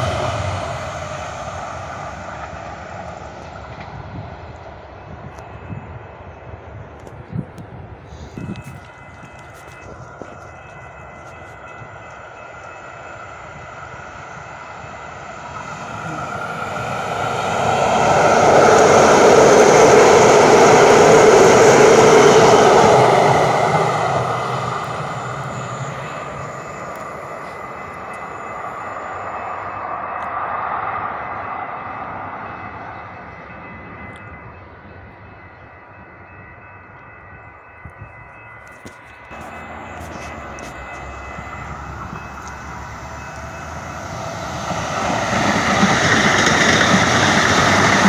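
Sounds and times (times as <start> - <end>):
light-rail train passing: 0.0 - 48.0.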